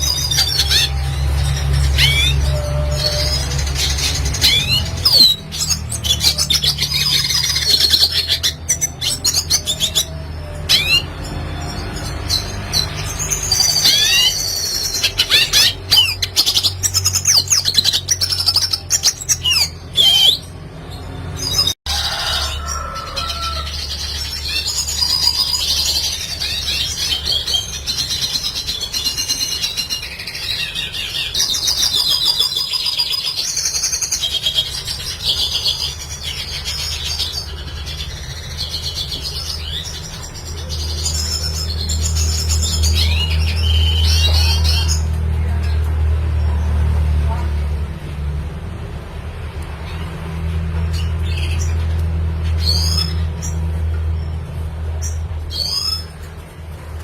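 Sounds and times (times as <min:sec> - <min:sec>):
bird twittering song: 0:00.0 - 0:21.8, 0:22.4 - 0:46.6, 0:49.7 - 0:56.3.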